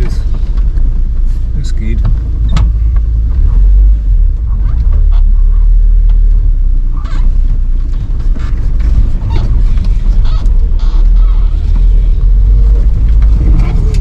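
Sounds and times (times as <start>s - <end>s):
body knocks and rattles: 0.0s - 3.3s, 4.4s - 14.0s
van engine rumble: 0.0s - 14.0s.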